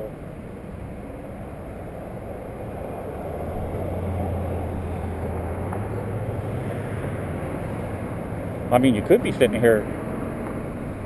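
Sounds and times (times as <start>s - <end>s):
passing vehicle engine rumble: 0.0s - 11.0s.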